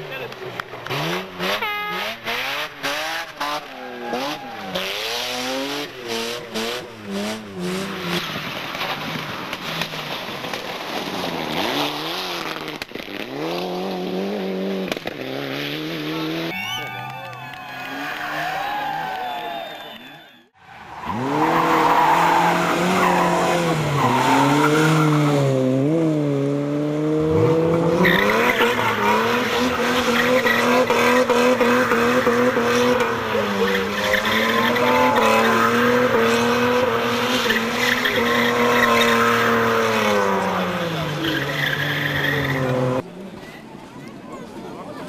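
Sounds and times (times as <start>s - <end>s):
rally car engine revving: 0.0s - 16.5s, 20.9s - 43.1s
tyres skidding: 0.0s - 45.0s.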